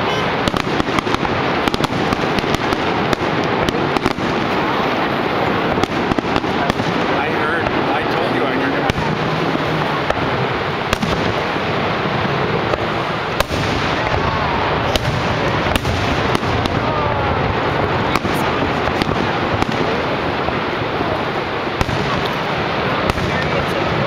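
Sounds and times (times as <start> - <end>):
fireworks bangs: 0.0 - 24.0
steady rushing noise: 0.0 - 24.0.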